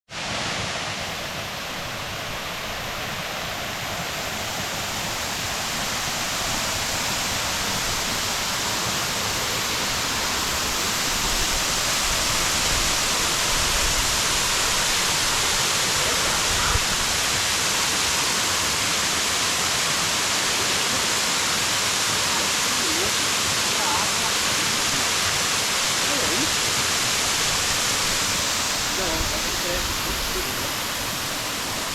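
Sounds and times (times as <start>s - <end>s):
waterfall rushing: 0.1s - 31.9s.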